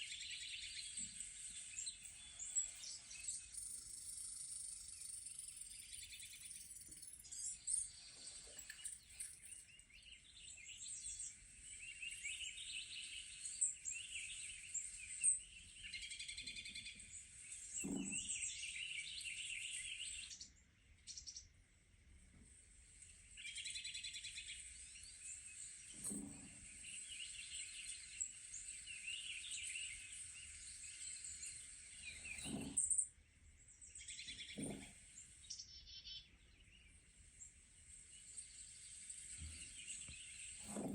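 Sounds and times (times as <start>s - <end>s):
birds chirping on tv: 0.0s - 40.9s.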